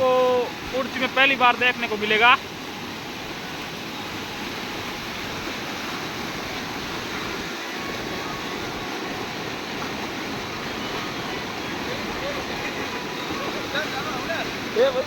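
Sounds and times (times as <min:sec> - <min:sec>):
floodwater rushing across road: 0:00.0 - 0:15.0.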